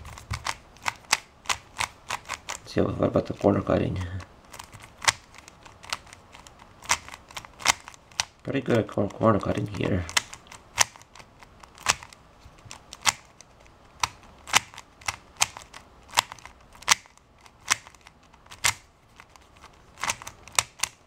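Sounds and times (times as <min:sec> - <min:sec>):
speed cube layers clicking: 0:00.0 - 0:21.0.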